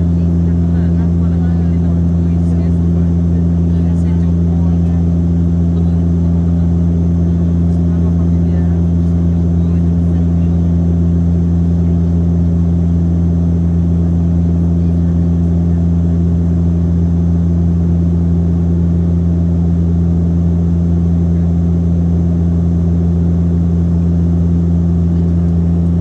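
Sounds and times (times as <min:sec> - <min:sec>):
plane engines droning in cabin: 0:00.0 - 0:26.0.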